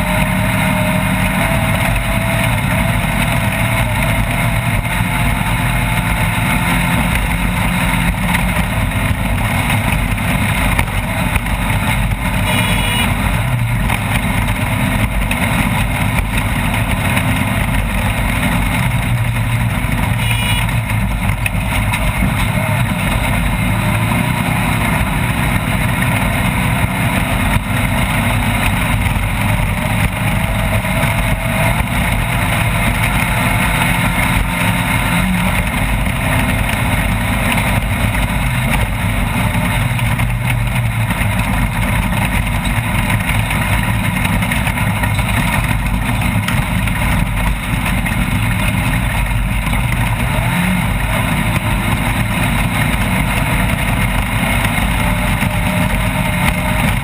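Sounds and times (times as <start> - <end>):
driving noise: 0.0 - 57.0
race vehicle engine running: 0.0 - 57.0.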